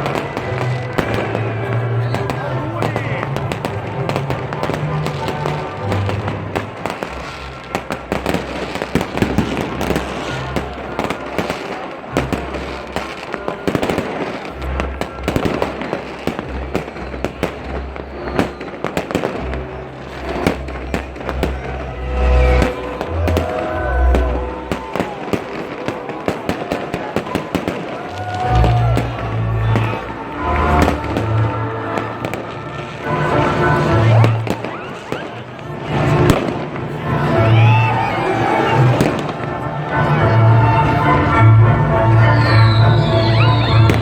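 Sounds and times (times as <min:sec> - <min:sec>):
fireworks deep booms: 0:00.0 - 0:37.0, 0:38.8 - 0:40.3
fireworks crackling: 0:00.0 - 0:44.0
waltz music: 0:00.0 - 0:44.0.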